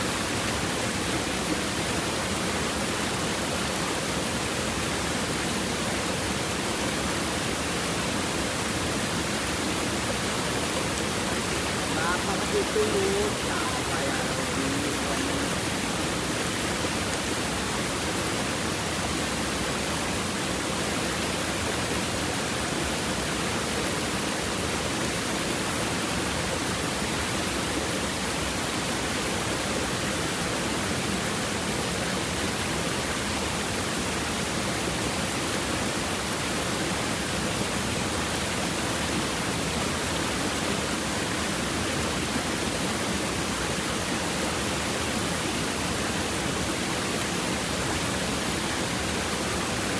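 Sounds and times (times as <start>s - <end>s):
river water rushing over stones: 0.0s - 49.9s.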